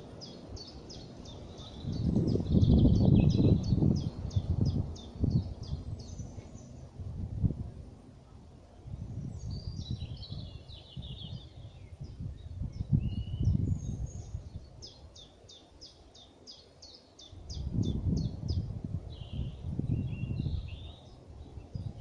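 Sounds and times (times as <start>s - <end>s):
low rumble on microphone: 0.0s - 15.0s, 17.4s - 22.0s
songbirds singing: 0.0s - 22.0s.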